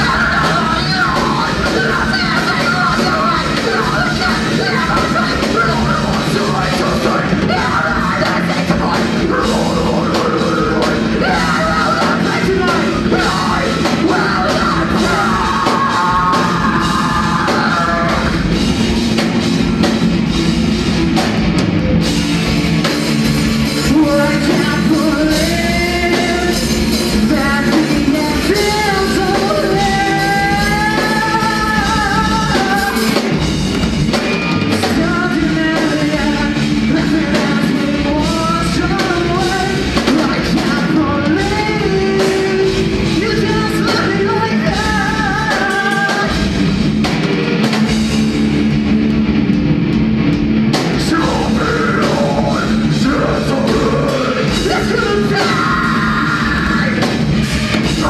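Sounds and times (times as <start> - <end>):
person singing: 0.0 - 18.6, 23.7 - 33.4, 34.6 - 46.6, 50.9 - 57.2
drum kit: 0.0 - 58.0
electric guitars: 0.0 - 58.0.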